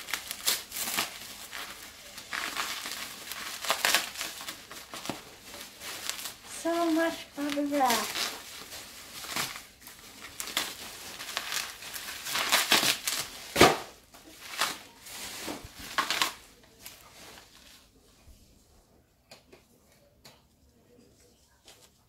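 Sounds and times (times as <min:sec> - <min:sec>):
bubble wrap crinkling: 0:00.0 - 0:18.1.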